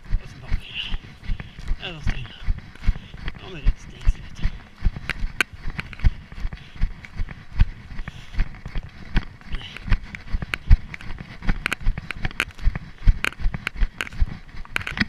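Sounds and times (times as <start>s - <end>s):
running footsteps thudding: 0.0s - 15.0s
twigs cracking underfoot: 0.0s - 15.0s.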